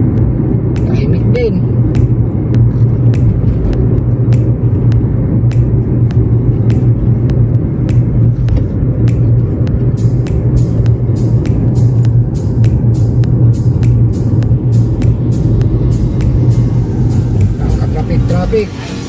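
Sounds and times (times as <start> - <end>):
car engine and road noise rumble: 0.0 - 19.0.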